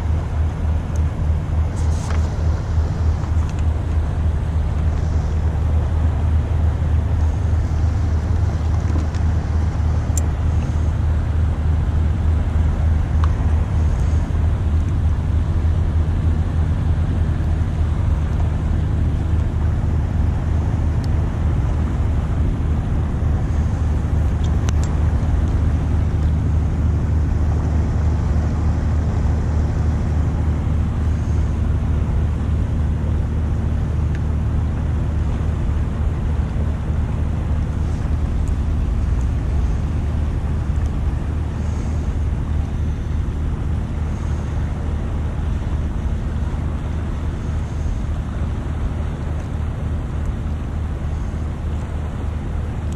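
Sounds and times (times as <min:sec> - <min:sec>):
barge diesel engine drone: 0:00.0 - 0:52.9.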